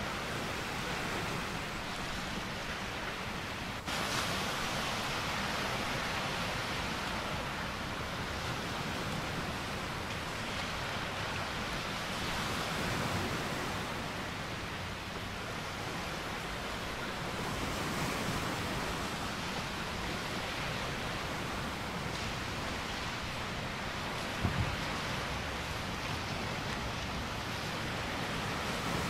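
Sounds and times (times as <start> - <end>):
small waves washing up a beach: 0.0 - 29.0.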